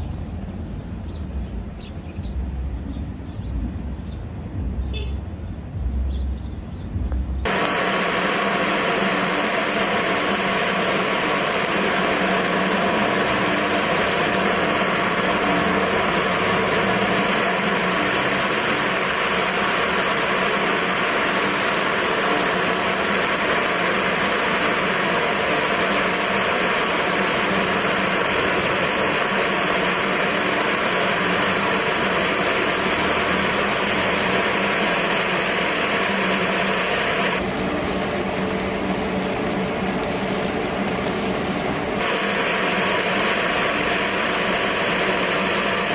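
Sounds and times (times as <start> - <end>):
welding arc crackling hiss: 6.9 - 45.9.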